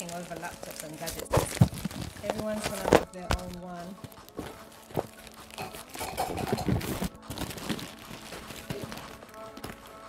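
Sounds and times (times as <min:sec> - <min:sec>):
plastic bag crinkling and tearing: 0:00.0 - 0:10.0.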